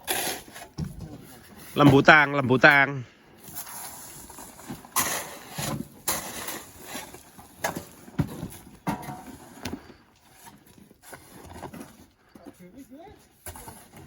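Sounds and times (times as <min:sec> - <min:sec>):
shovel scraping sand: 0:00.0 - 0:02.8, 0:03.4 - 0:14.0.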